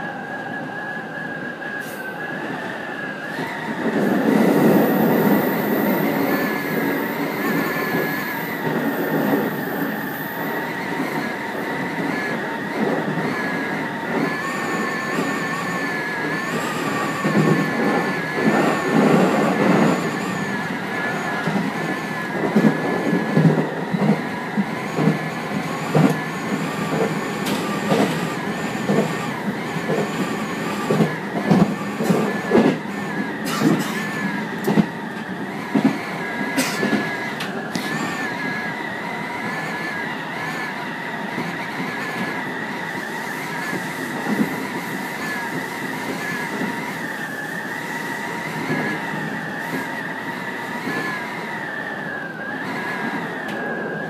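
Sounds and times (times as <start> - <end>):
electric train high whine: 0.0 - 54.0.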